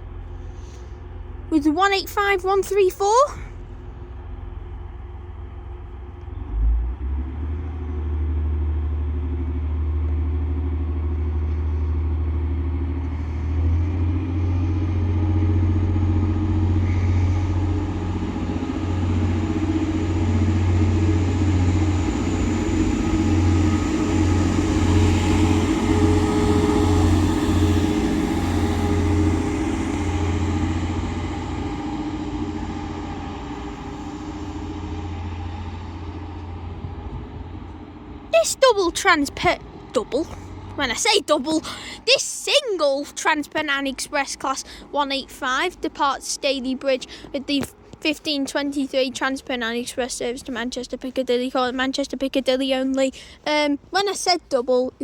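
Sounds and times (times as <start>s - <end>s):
diesel train engines running: 0.0s - 55.0s.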